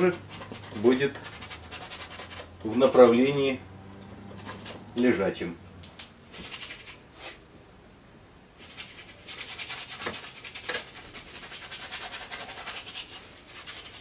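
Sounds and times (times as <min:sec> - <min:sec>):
paintbrush scratching on canvas: 0:00.0 - 0:05.0, 0:06.3 - 0:07.4, 0:08.6 - 0:14.0.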